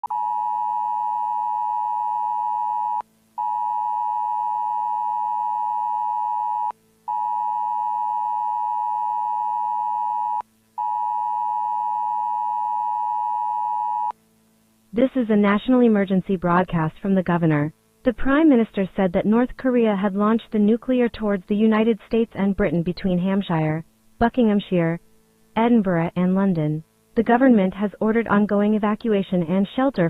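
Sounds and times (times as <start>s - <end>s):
faint low hum: 0.1s - 30.0s.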